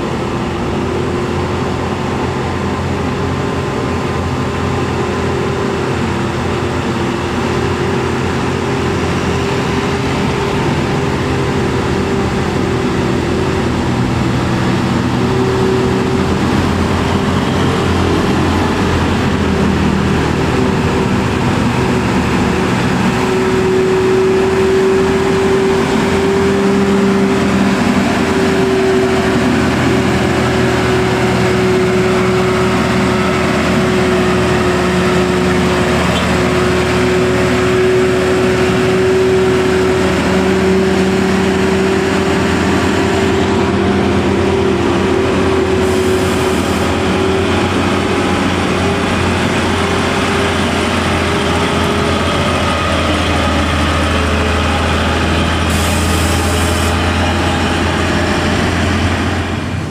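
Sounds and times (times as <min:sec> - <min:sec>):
truck diesel engines droning: 0:00.0 - 0:59.9.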